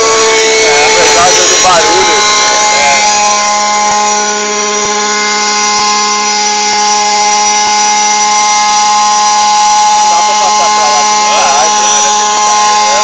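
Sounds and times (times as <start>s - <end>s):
model helicopter whine: 0.0s - 13.0s.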